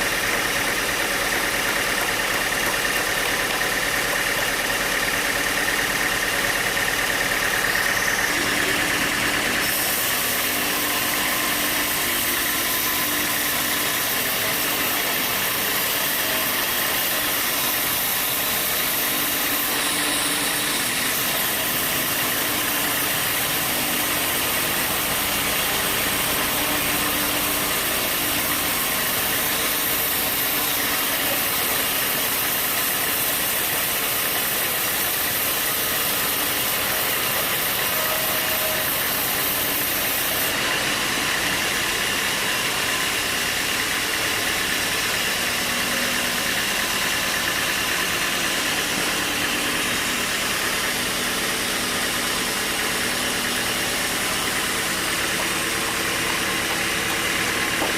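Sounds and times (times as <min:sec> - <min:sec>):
sawmill machinery running: 0:00.0 - 0:57.9.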